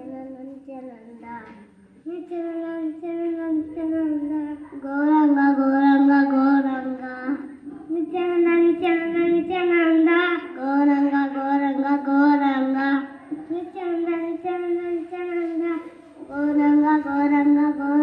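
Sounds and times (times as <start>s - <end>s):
child singing into a microphone: 0.0s - 18.0s.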